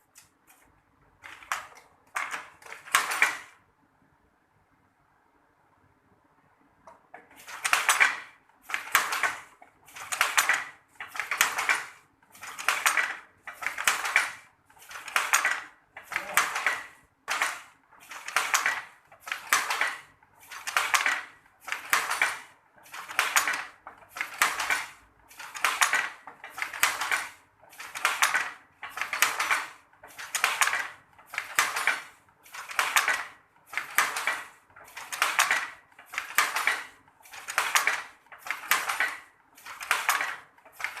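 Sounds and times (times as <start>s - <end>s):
weaving loom clattering: 1.2s - 3.6s, 7.1s - 41.0s.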